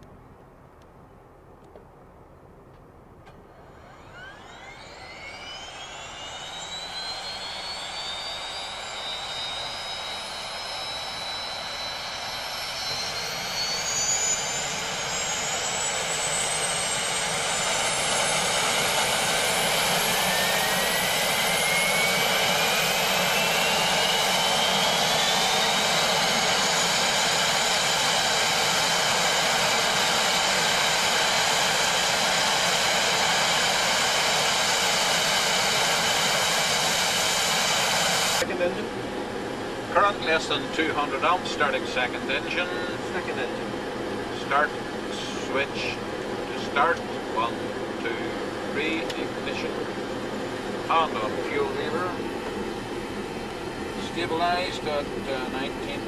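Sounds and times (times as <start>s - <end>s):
turboprop engine starting: 3.1s - 56.0s.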